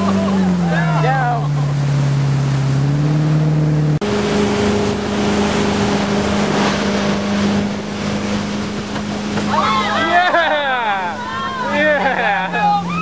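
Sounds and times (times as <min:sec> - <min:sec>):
speedboat engine running: 0:00.0 - 0:13.0
water rushing in boat wake: 0:00.0 - 0:13.0
wind: 0:00.0 - 0:13.0.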